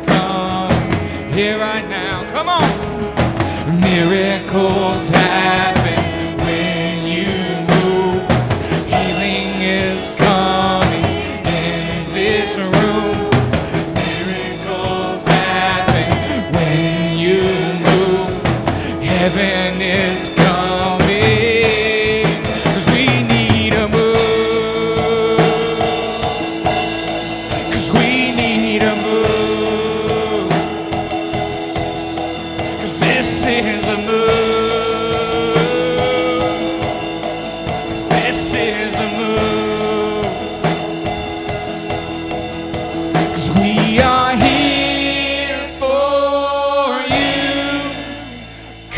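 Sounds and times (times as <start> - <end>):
drum kit beat: 0.0 - 48.9
guitars playing: 0.0 - 48.9
voices singing: 0.0 - 48.9.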